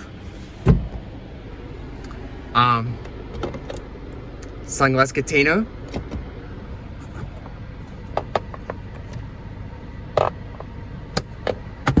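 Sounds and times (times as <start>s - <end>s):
car idling hum: 0.0s - 12.0s.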